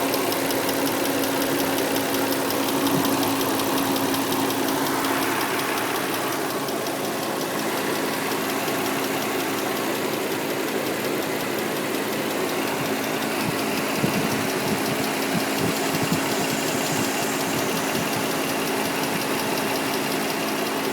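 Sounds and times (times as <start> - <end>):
car engine idling: 0.0 - 20.9
rapid even ticking: 0.0 - 20.9.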